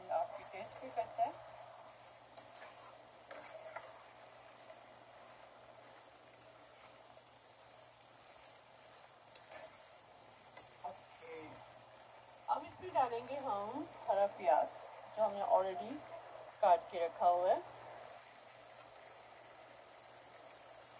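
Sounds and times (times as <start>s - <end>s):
chicken sizzling in oil: 0.0s - 20.9s.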